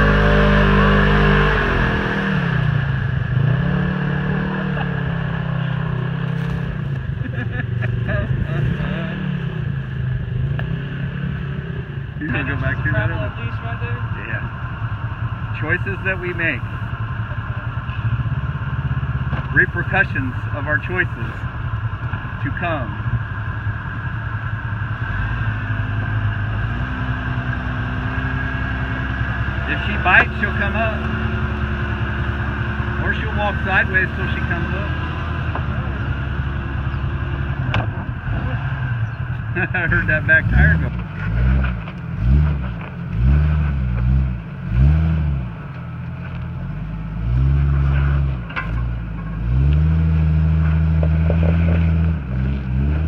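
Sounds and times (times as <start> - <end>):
utility vehicle engine revving: 0.0 - 53.0.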